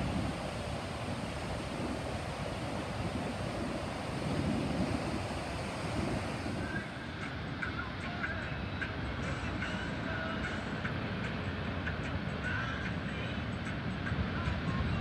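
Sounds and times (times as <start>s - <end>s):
wind buffeting microphone: 0.0s - 12.2s
distant surf breaking: 0.0s - 15.0s.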